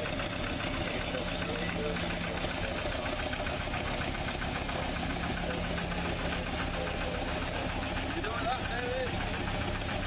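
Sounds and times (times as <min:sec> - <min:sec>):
small locomotive engine running: 0:00.0 - 0:10.0.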